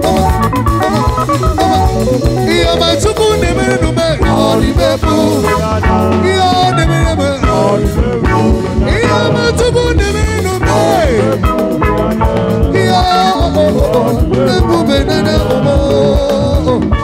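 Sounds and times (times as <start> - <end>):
bass guitar: 0.0 - 17.0
drum kit beat: 0.0 - 17.0
electric guitar melody: 0.0 - 17.0.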